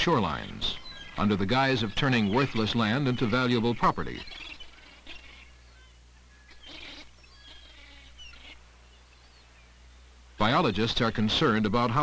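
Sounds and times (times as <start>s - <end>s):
faint bird calls: 0.0s - 10.5s
low steady hum: 0.0s - 12.0s.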